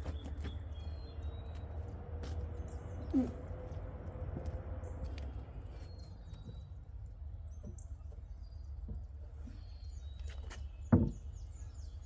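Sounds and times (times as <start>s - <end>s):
birds chirping: 0.0s - 3.8s, 4.5s - 12.0s.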